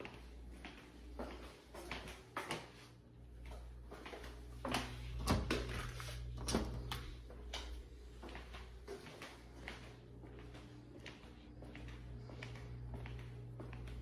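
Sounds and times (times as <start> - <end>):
footsteps on tile floor: 0.0 - 14.0
steady low hum: 0.0 - 14.0.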